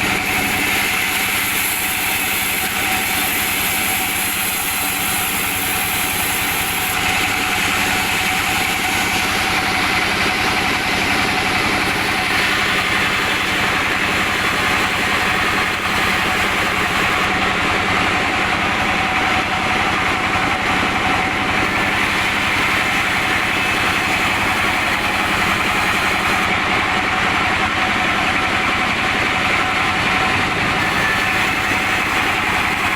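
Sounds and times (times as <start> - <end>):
sawmill machinery sawing logs: 0.0 - 32.9.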